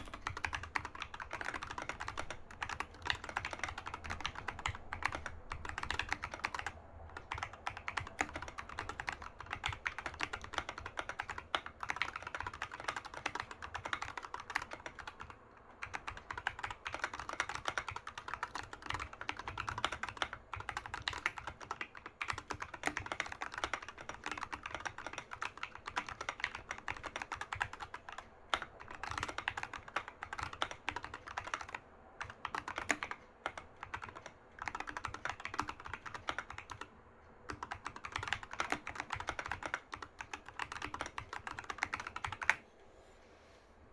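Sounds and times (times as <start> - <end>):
mechanical keyboard typing: 0.0 - 42.6.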